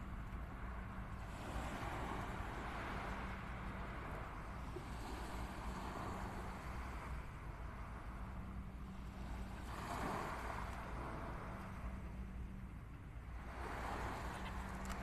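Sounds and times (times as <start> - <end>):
small waves washing on sand: 0.0 - 8.3, 9.0 - 11.7, 13.3 - 15.0
faint steady hum: 0.0 - 15.0
wind rumble on microphone: 0.0 - 15.0.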